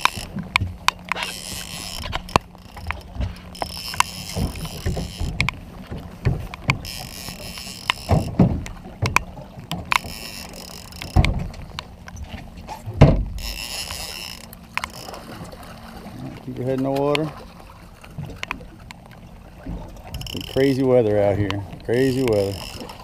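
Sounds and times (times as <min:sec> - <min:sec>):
fishing reel whirring: 0:00.0 - 0:16.0, 0:20.0 - 0:23.0
reel clicks: 0:00.0 - 0:23.0
steady low hum: 0:00.0 - 0:23.0.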